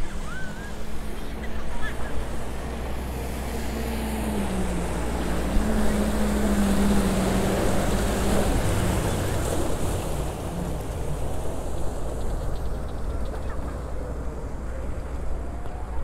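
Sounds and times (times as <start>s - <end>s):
rushing floodwater: 0.0s - 16.0s.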